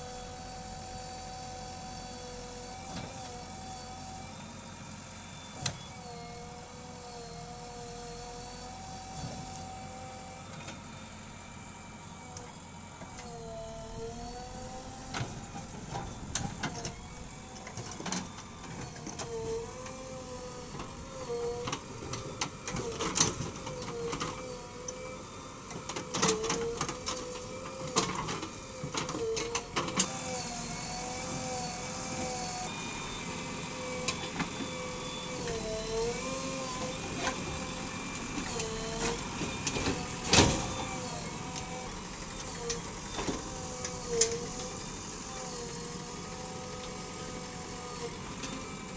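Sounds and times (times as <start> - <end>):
diesel engine under load: 0.0 - 48.9.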